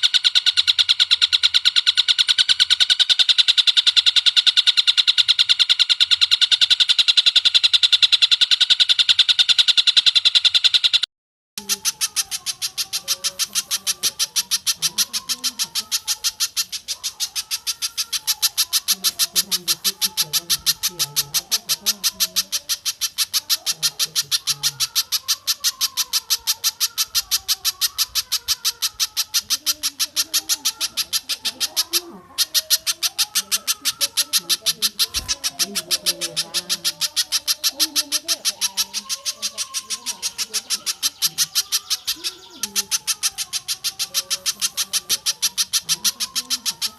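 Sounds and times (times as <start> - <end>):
low wavering bird calls: 0.0 - 11.0, 11.6 - 46.9
sharp high-pitched bird calls: 0.0 - 46.9.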